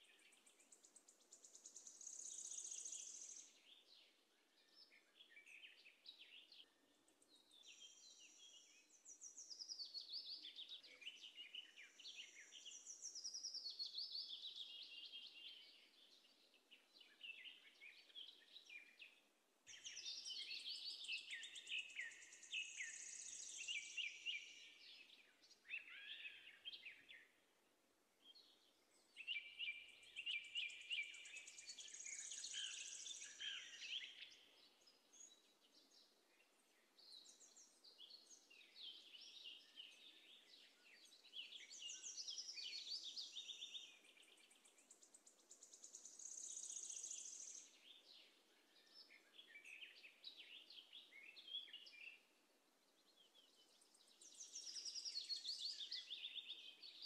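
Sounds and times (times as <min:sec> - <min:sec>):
songbird chirping and trilling: 0:00.0 - 0:57.0.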